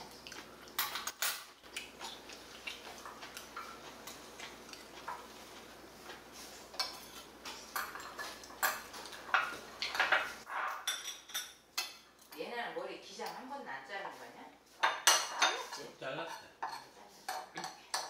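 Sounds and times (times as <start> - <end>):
cutlery clinking on plates and bowls: 0.0 - 12.4, 14.8 - 18.0.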